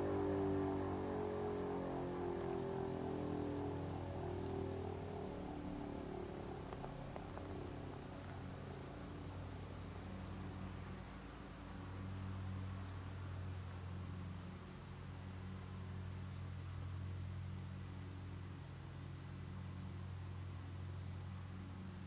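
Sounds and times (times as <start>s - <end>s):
insects trilling: 0.0s - 22.0s
low steady hum: 0.0s - 22.0s.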